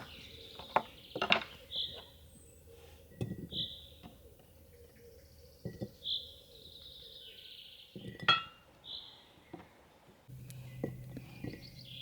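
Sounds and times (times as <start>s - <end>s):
birds whistling calls: 0.0s - 9.2s, 10.4s - 12.0s.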